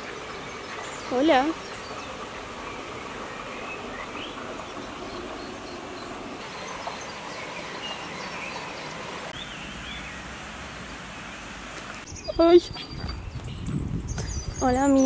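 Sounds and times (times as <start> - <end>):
small birds chirping: 0.0 - 10.3, 11.1 - 15.0
river water flowing: 0.0 - 12.2.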